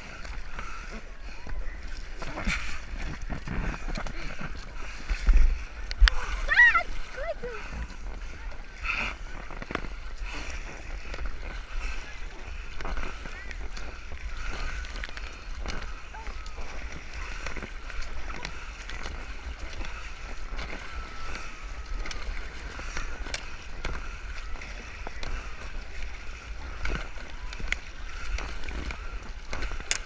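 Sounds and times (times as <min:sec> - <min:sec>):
continuous water noise: 0:00.0 - 0:30.0
paddles splashing in water: 0:00.0 - 0:30.0.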